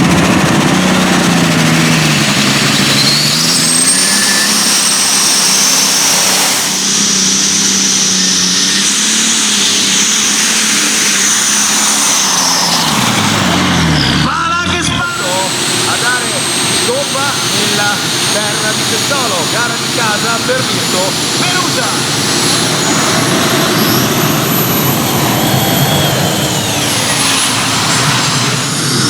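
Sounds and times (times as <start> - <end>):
engine running hard: 0.0 - 29.0
high whine: 0.0 - 29.0.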